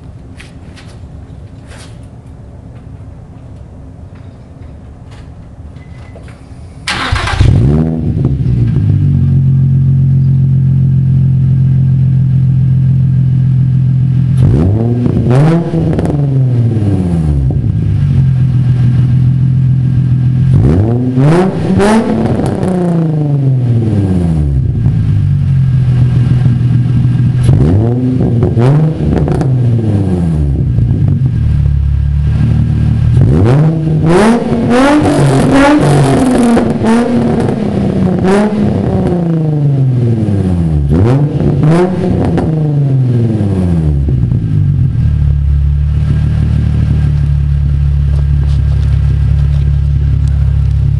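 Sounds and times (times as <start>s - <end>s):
car engine idling and revving: 6.8s - 50.9s.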